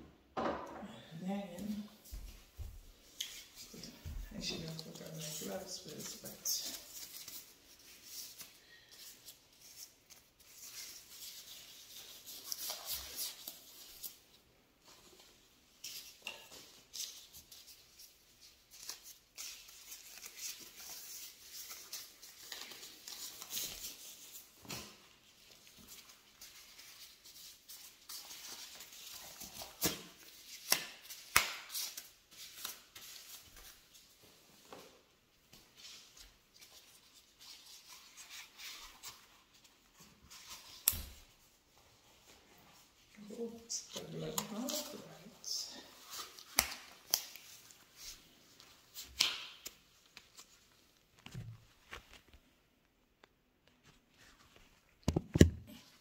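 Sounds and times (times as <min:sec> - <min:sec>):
plastic gloves crinkling: 0:01.2 - 0:53.2.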